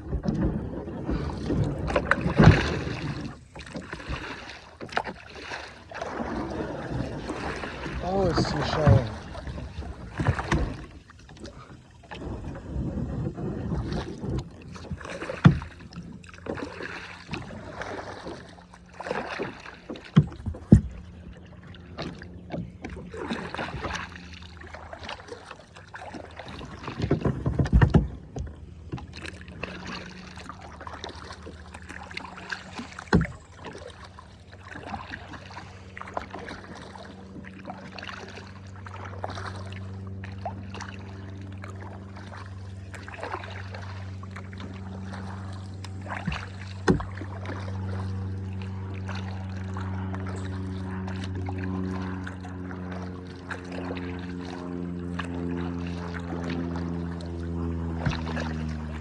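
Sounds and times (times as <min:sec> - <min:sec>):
paddle strokes swishing water: 0:00.0 - 0:59.0.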